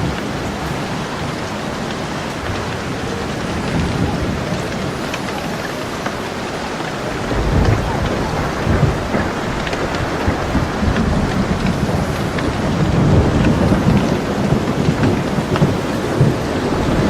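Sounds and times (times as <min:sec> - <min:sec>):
low rumble of thunder: 0:00.0 - 0:17.0
steady rain falling: 0:00.0 - 0:17.0.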